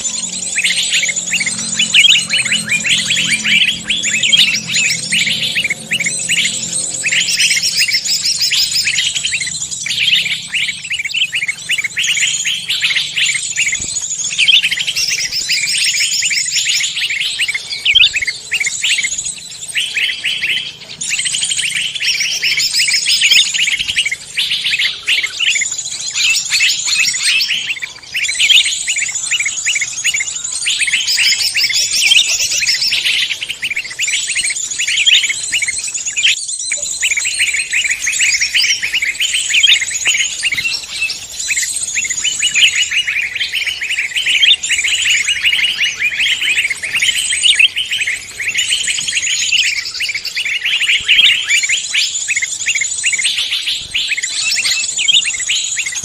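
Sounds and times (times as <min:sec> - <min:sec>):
forest songbirds chirping: 0:00.0 - 0:56.0.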